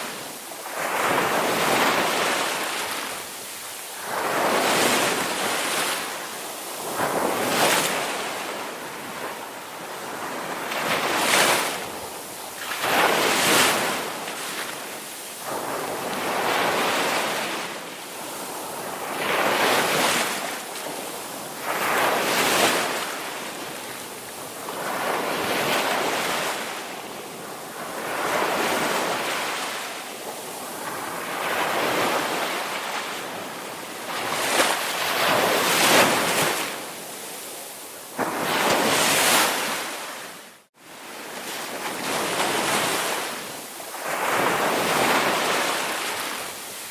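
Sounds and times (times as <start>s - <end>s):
waves breaking on beach: 0.0s - 46.9s.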